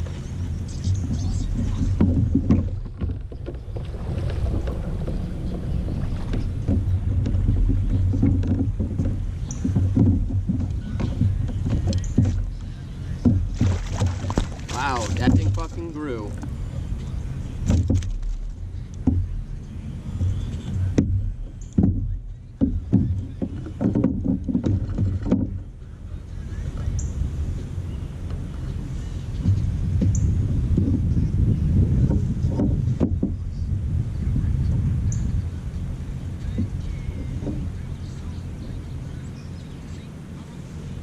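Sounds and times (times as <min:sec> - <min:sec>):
water sloshing against kayak: 0:00.0 - 0:41.0
wind rumbling on microphone: 0:00.0 - 0:41.0.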